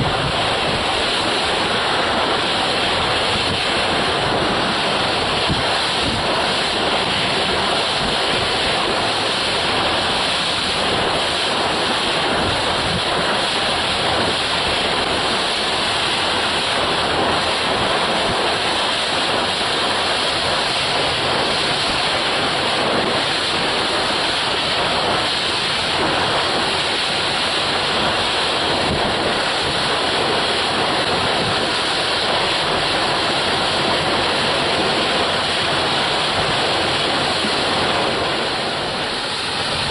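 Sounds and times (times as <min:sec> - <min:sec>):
sea water: 0:00.0 - 0:39.9
wind buffeting microphone: 0:00.0 - 0:39.9.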